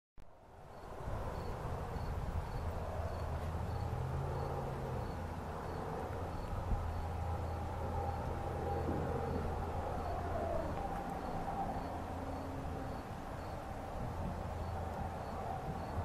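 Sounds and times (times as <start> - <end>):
steady low rumble: 0.2 - 16.0
cricket chirping: 0.7 - 16.0.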